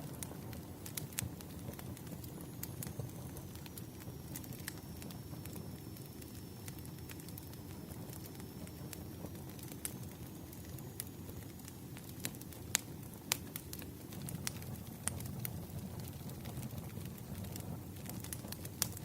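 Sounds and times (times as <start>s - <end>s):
burning wood crackling and popping: 0.0s - 19.0s
low rumble of flames: 0.0s - 19.0s.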